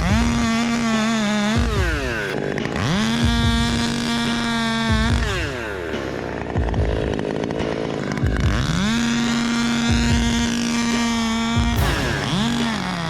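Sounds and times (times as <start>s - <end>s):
chainsaw engine whining: 0.0s - 13.0s.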